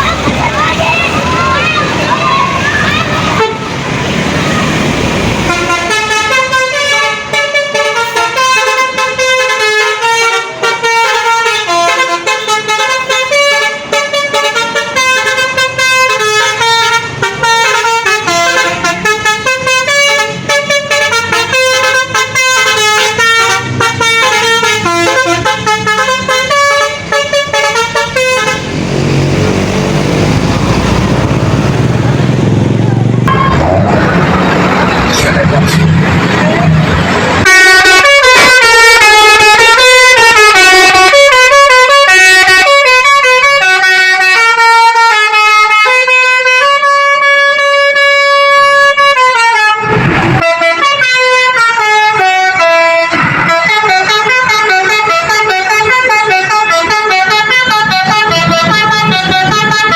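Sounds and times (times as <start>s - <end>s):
multi-tone musical bus horn: 0.0s - 4.7s, 5.4s - 29.6s, 37.3s - 59.9s.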